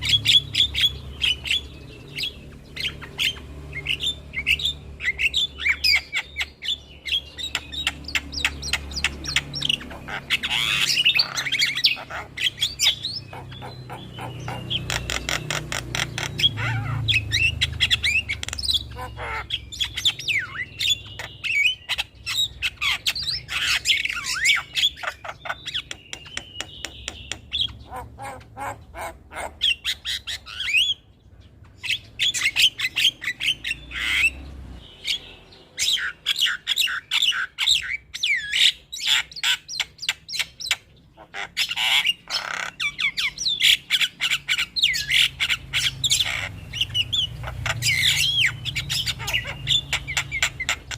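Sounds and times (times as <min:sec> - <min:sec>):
myna chattering and squawking: 0:00.0 - 0:31.0, 0:35.8 - 0:50.9.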